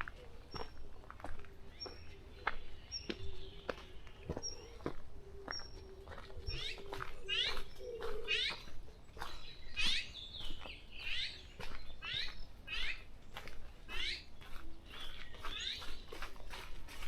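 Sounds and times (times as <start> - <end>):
faint chirps of other birds: 0.0 - 17.0
songbird chirping: 0.0 - 17.0.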